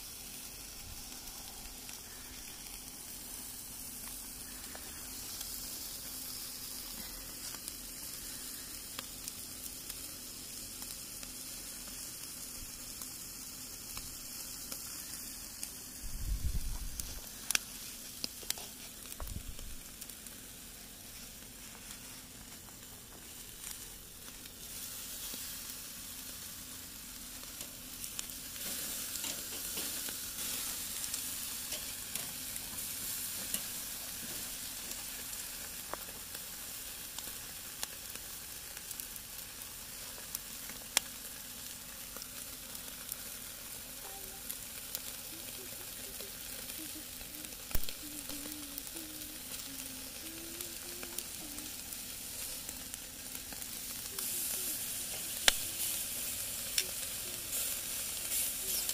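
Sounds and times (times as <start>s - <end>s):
food sizzling on grill: 0.0s - 58.9s.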